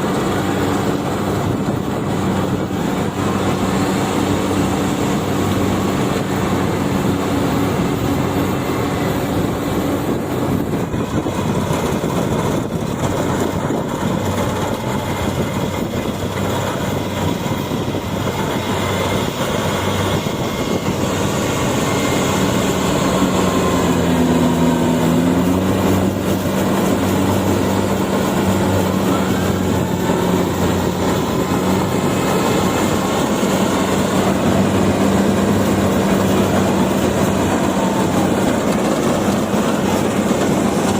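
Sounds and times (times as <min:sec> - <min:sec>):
clatter of threshing machinery: 0:00.0 - 0:40.9
combine harvester diesel engine humming: 0:00.0 - 0:40.9.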